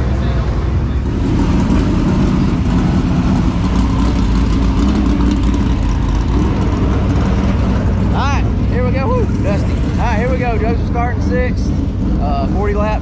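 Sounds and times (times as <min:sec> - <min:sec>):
race car engine deep rumble: 0:00.0 - 0:13.0.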